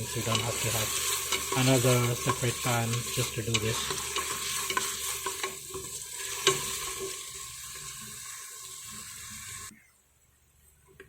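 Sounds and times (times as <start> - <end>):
onions sizzling in butter: 0.0 - 9.7.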